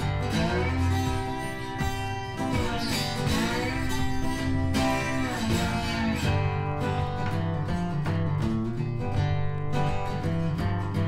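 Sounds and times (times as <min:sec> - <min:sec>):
guitar music with bending notes: 0:00.0 - 0:11.0.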